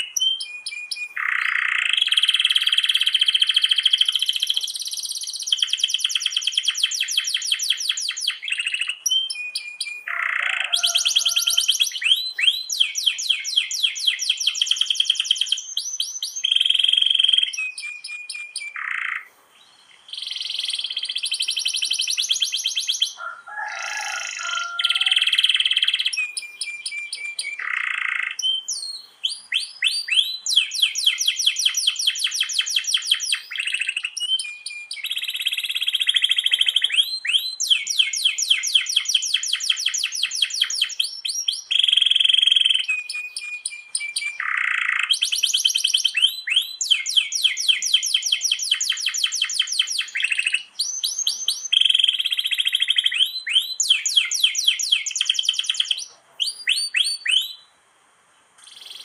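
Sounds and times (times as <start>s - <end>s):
canary singing trills: 0.0s - 57.8s, 58.4s - 59.0s.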